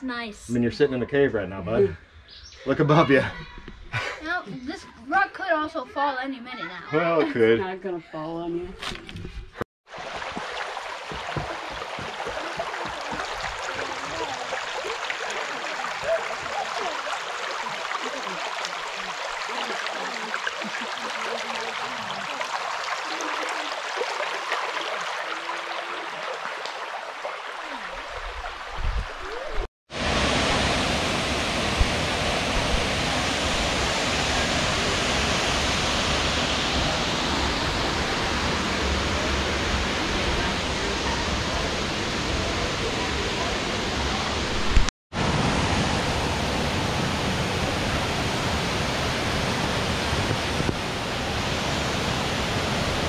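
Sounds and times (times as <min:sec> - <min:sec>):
creek water rippling over rocks: 0:09.9 - 0:53.0.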